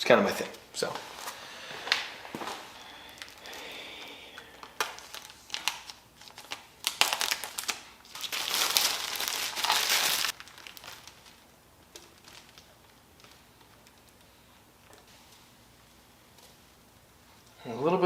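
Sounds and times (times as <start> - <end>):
crinkling handling noise: 0.9 - 16.7.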